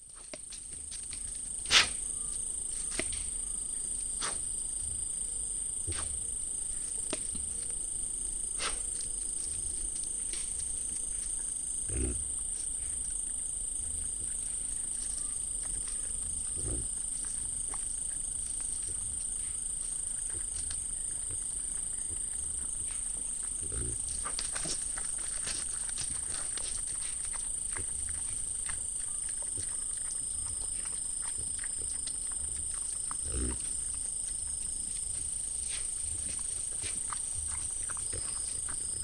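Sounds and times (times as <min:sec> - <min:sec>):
crickets trilling: 0:00.1 - 0:39.0.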